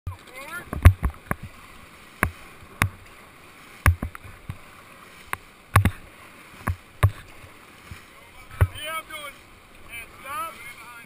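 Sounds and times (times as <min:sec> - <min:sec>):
paddles splashing water: 0:00.1 - 0:11.0
river water rushing: 0:00.1 - 0:11.0.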